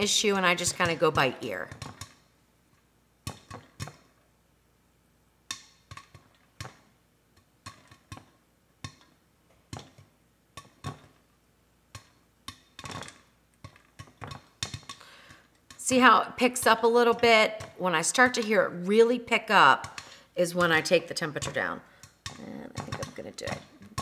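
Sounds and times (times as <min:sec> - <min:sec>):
popcorn popping: 0:00.0 - 0:04.3, 0:05.4 - 0:24.0.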